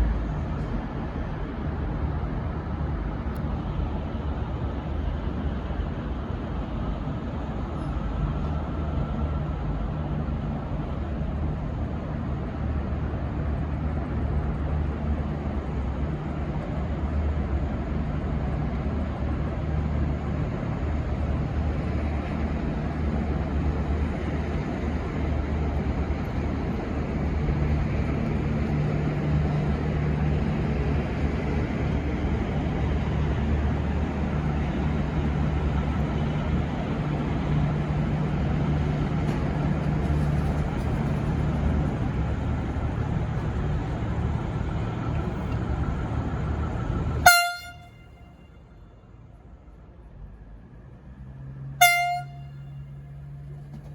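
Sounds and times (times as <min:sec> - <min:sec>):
diesel train engines droning: 0:00.0 - 0:53.9.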